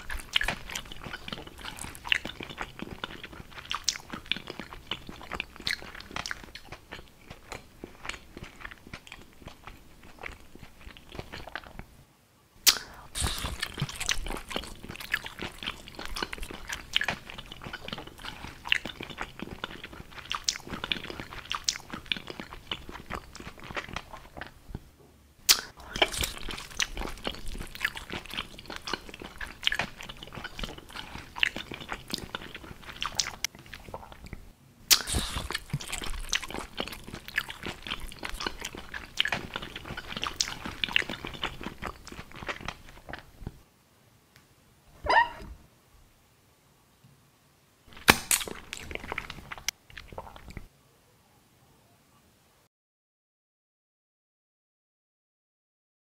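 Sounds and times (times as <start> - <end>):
chewing a hot dog: 0.0 - 12.0, 12.6 - 24.9, 25.5 - 43.6, 47.9 - 50.7.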